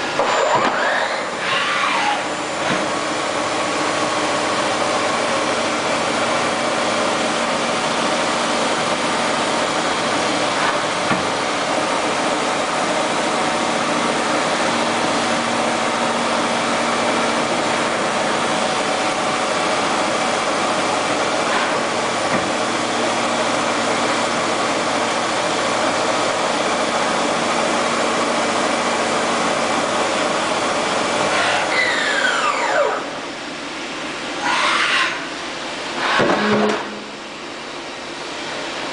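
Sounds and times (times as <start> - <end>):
machining center humming and whirring: 0.0 - 38.9.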